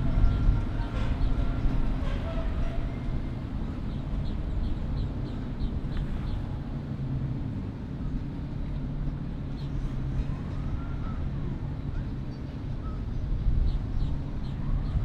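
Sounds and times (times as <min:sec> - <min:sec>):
boat engines humming: 0:00.0 - 0:15.0.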